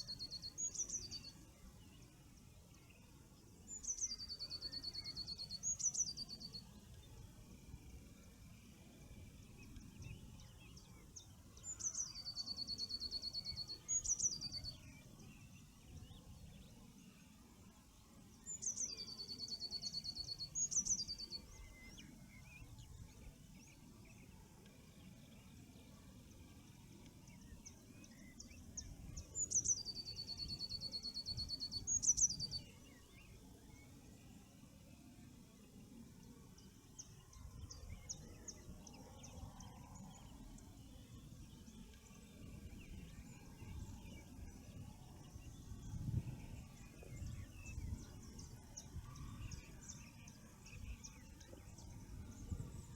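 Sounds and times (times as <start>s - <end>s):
songbird trilling song: 0.0s - 52.9s.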